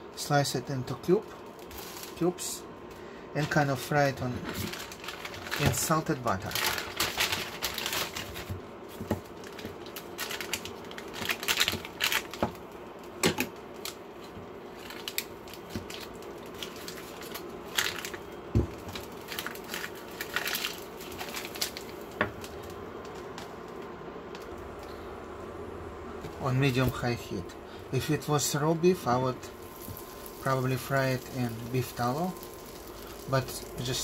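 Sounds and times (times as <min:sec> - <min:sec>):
paper wrapper crinkling: 0:01.3 - 0:25.0, 0:29.4 - 0:34.0.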